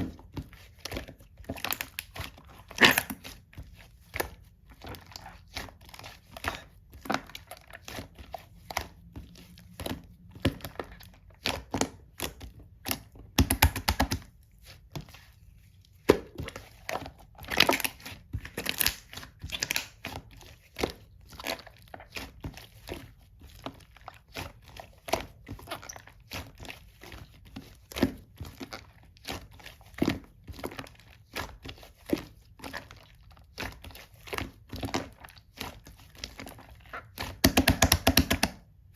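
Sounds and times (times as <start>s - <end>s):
slime squished by hand: 0.1s - 38.9s.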